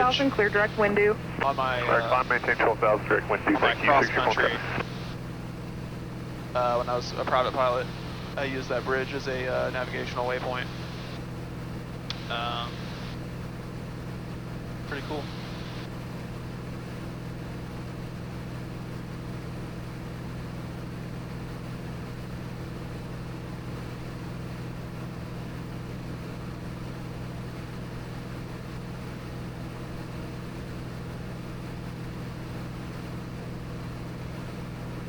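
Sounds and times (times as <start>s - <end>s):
aircraft engine and propeller drone: 0.0s - 35.0s.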